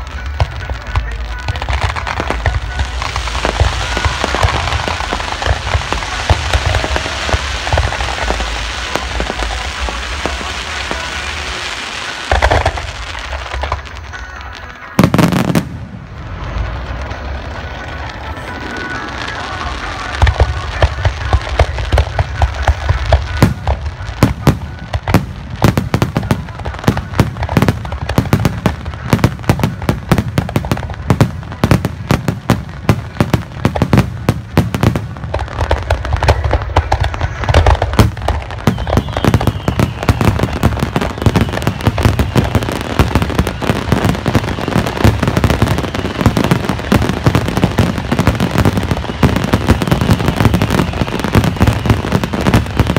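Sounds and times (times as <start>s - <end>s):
fireworks booms and crackling: 0.0s - 52.9s.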